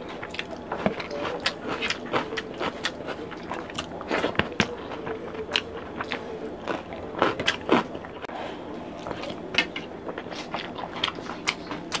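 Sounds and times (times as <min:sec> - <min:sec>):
wet chewing and lip-smacking: 0:00.1 - 0:08.3, 0:09.0 - 0:12.0.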